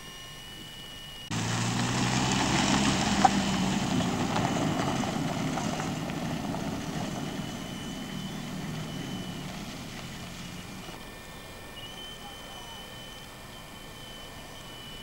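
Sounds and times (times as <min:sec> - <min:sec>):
engine running: 0:01.2 - 0:15.0.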